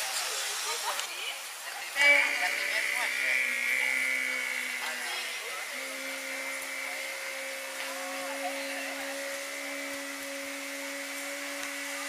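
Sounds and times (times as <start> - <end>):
background hiss: 0.0 - 12.0
steady mechanical hum: 2.0 - 12.0.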